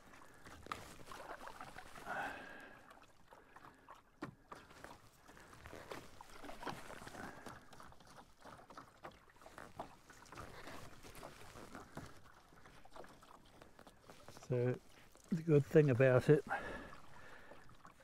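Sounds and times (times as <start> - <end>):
paddle knocks and splashes: 0.0 - 18.0
water lapping against a canoe: 0.0 - 18.0.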